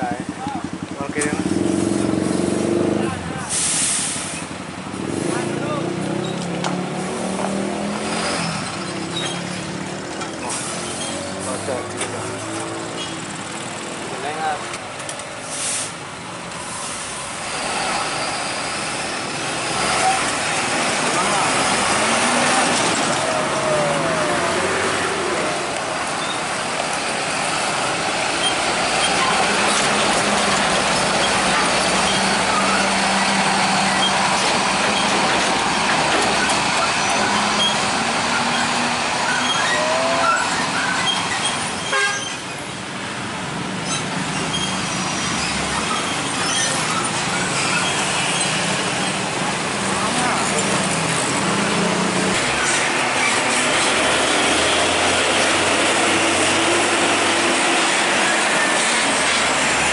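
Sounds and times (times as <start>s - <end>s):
motorcycles and traffic: 0.0s - 59.9s.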